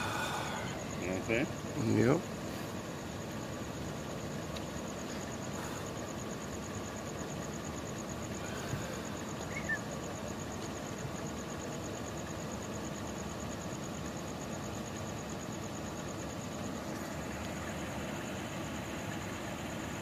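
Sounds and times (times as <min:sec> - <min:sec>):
low rumble of vehicles: 0:00.0 - 0:20.0.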